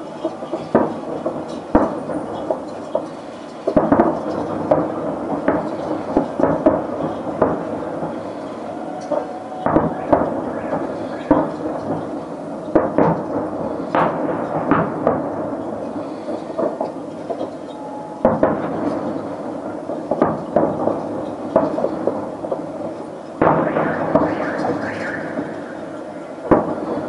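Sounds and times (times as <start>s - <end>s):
fireworks booming: 0.0s - 27.0s.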